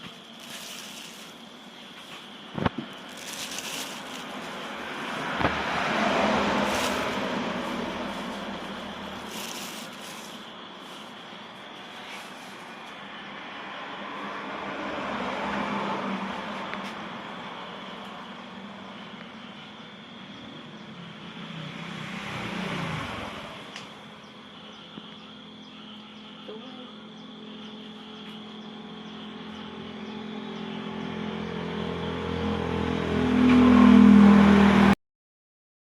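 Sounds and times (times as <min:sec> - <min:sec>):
vehicles passing on a road: 0:00.0 - 0:35.0.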